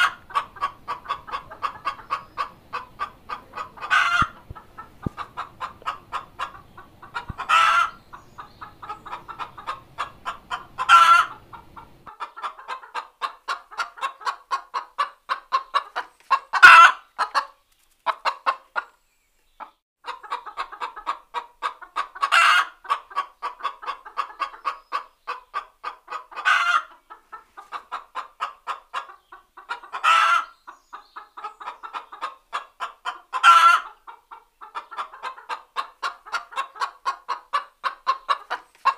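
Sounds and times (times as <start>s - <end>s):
hen cackling and squawking: 0.0s - 19.0s, 19.6s - 38.9s.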